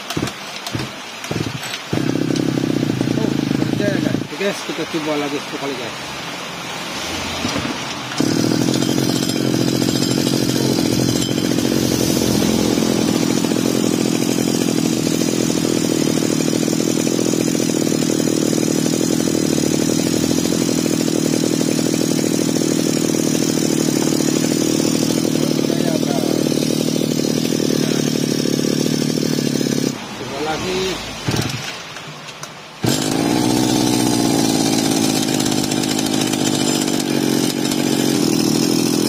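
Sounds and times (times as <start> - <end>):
brush cutter engine starting and running: 0.0 - 5.9, 6.9 - 39.0.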